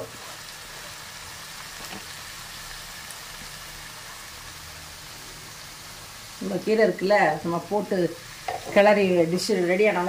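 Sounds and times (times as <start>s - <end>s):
spinach sizzling in a frying pan: 0.0s - 10.0s.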